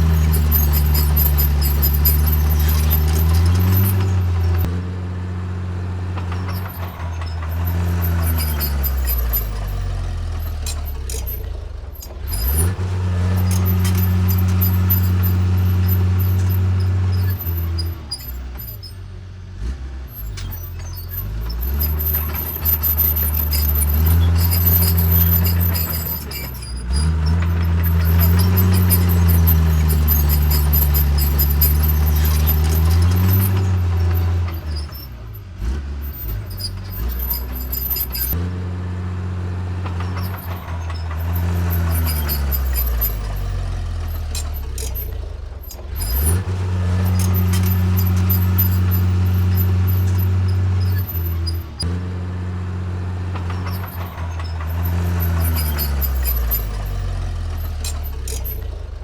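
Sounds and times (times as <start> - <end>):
light clicks and rattles: 0.0 - 4.7, 6.2 - 18.9, 20.1 - 38.4, 39.8 - 51.9, 53.3 - 58.9
bulldozer diesel engine: 0.0 - 59.0.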